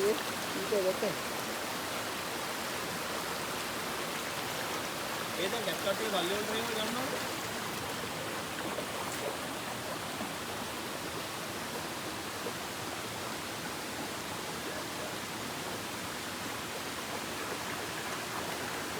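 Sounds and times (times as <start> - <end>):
flowing water rushing: 0.0 - 18.9.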